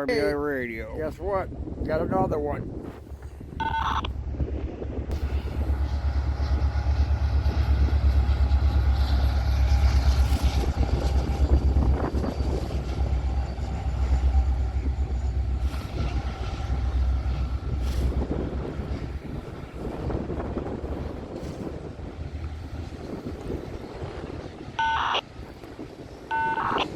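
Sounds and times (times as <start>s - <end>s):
freight train rumbling: 0.0s - 26.9s.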